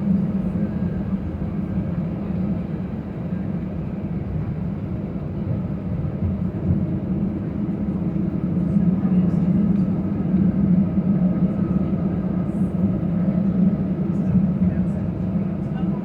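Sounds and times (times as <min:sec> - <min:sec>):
airplane cabin engine rumble: 0:00.0 - 0:16.0
constant low hum: 0:00.0 - 0:16.0.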